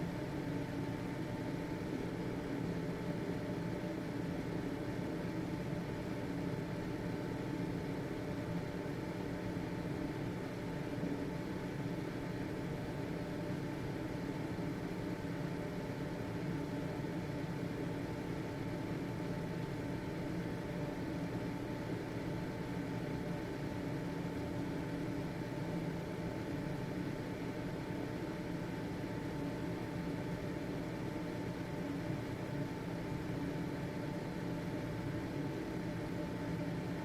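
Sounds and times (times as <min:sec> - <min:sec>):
exhaust fan whirring: 0:00.0 - 0:37.0.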